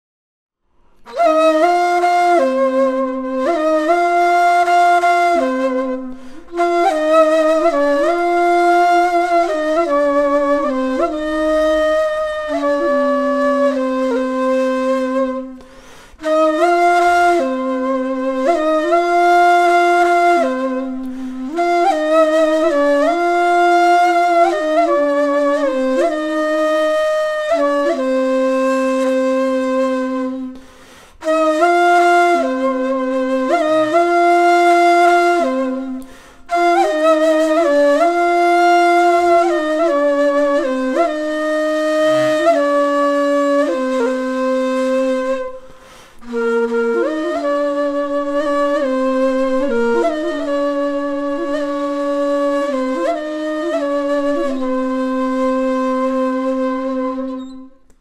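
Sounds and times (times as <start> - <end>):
cane flute melody: 1.0 - 58.0.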